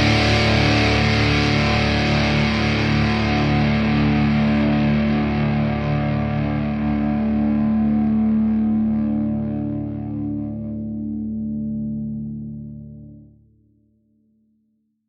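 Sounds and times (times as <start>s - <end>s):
distorted electric guitar chords: 0.0s - 13.3s.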